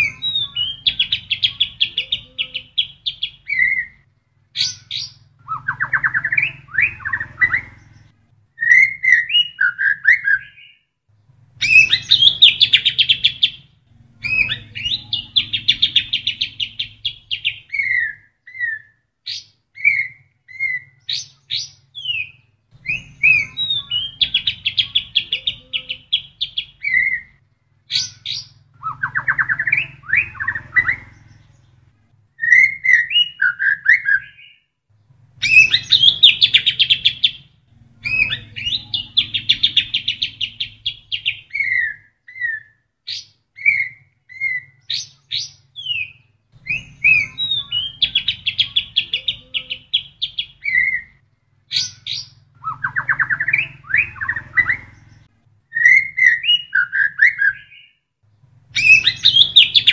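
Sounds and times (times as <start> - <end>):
songbird singing trills and whistles: 0.0 - 10.9, 11.6 - 31.8, 32.4 - 34.7, 35.4 - 58.0, 58.7 - 59.9.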